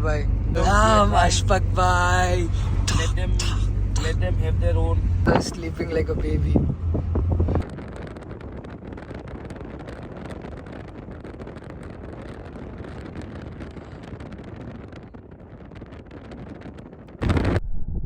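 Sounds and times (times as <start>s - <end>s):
vehicle moving on road: 0.0s - 17.5s
wind buffeting microphone: 0.0s - 18.0s.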